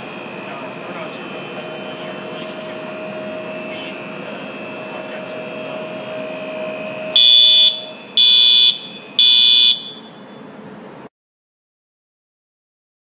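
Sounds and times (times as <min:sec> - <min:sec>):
electronic warning alarm beeps: 0:00.0 - 0:10.5
machinery humming: 0:00.0 - 0:11.1.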